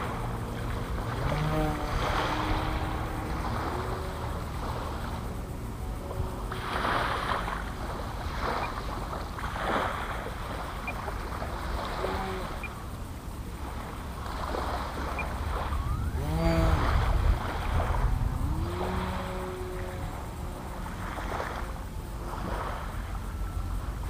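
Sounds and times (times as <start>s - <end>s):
model airplane motor passing: 0.0s - 9.0s, 10.8s - 24.0s
wind buffeting microphone: 0.0s - 24.0s.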